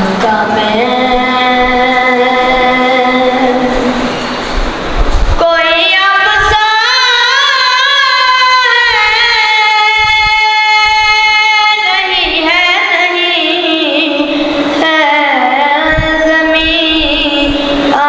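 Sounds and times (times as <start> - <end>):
boy singing devotional song: 0.0 - 4.2, 5.3 - 18.0.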